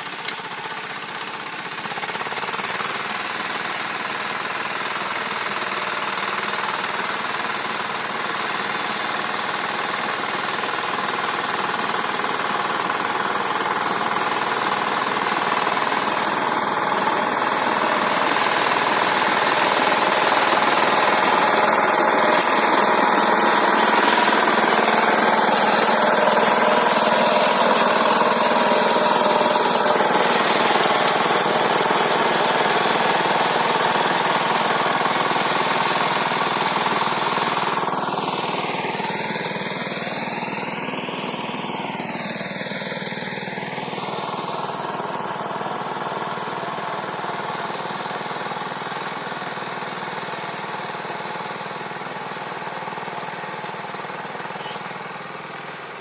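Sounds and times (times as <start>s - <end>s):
rotary tiller churning soil: 0.0s - 56.0s
tractor engine running: 0.0s - 56.0s.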